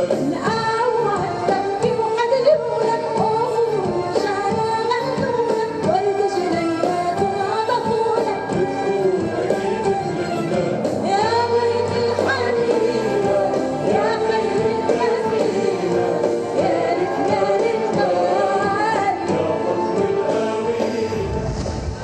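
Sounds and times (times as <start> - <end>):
woman singing: 0.0 - 10.3, 11.0 - 20.2
orchestral accompaniment: 0.0 - 22.0.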